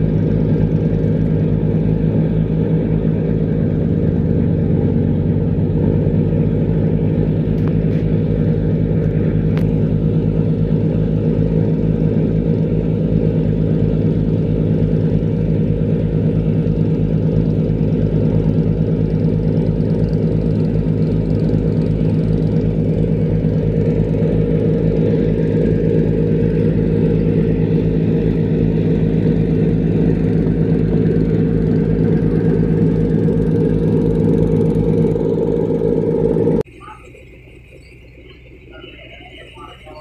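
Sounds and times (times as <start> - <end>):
boat diesel engine droning: 0.0 - 40.0.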